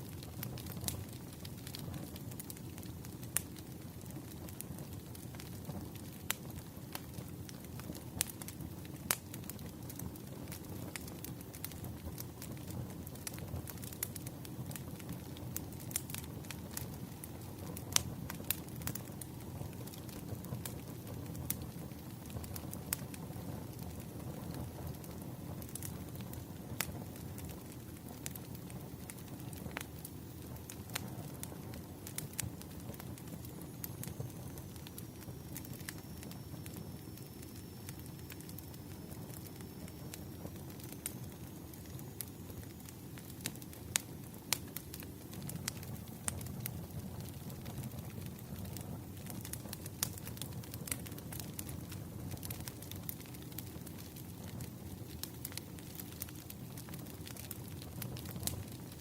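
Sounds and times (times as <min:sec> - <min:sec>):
campfire flames rumbling: 0:00.0 - 0:59.0
wood crackling and popping: 0:00.0 - 0:59.0.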